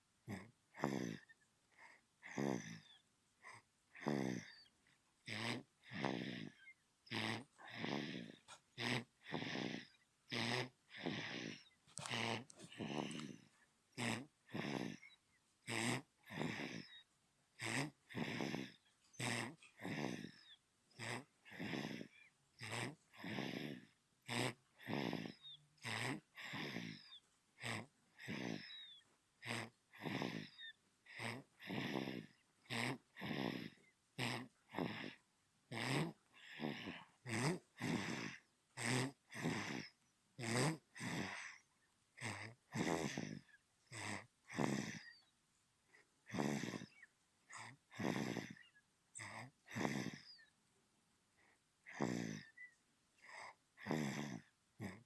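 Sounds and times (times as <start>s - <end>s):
baby snoring: 0.2s - 45.3s, 45.9s - 50.5s, 51.8s - 55.0s.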